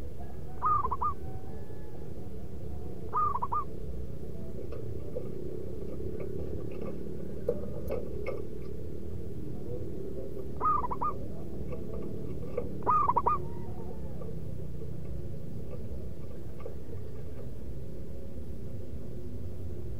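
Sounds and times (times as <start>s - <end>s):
dove cooing: 0.0s - 19.9s
low background noise: 0.0s - 19.9s.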